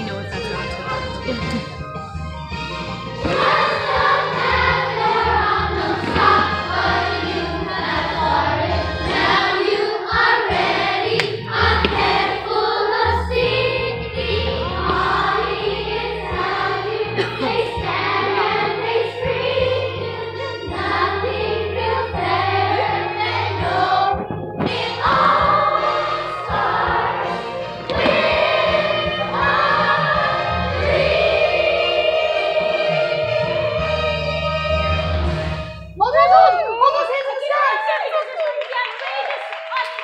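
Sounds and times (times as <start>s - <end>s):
musical accompaniment: 0.0s - 36.8s
children singing together: 3.2s - 35.4s.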